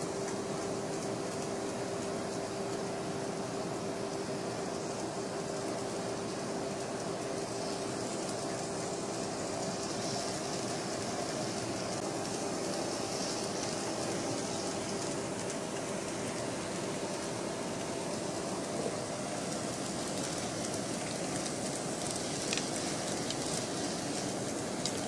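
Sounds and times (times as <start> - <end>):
wheels hissing on rails: 0.0 - 25.0.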